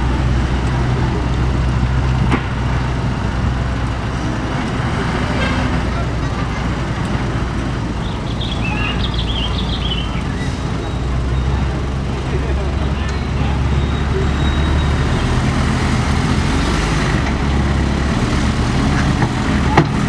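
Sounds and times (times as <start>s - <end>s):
heavy diesel engines humming: 0.0s - 20.0s.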